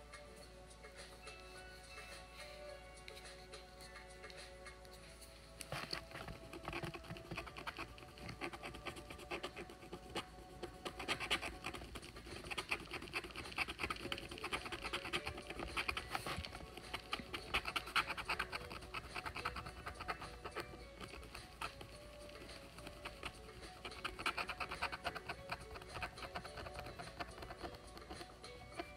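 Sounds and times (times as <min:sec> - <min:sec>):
stick scratching paper: 0:03.1 - 0:28.9.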